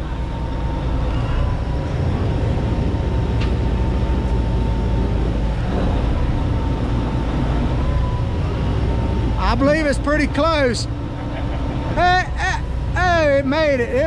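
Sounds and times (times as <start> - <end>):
boat engines droning: 0.0 - 14.0
faint steady whine: 0.0 - 14.0.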